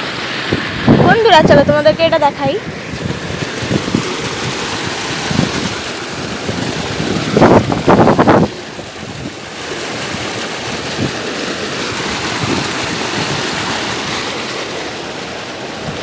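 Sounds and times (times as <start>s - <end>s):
river water rushing and splashing: 0.0s - 16.0s.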